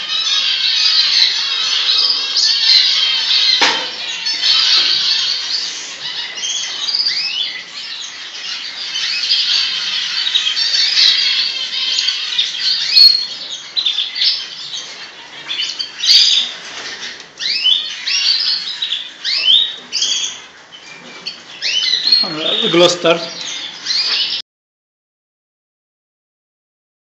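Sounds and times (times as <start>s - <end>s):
canaries chirping and singing: 0.0s - 24.4s.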